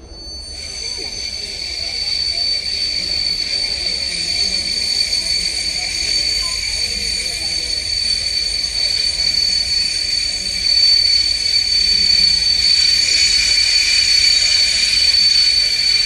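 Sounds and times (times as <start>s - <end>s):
train whine and hiss: 0.0s - 16.0s.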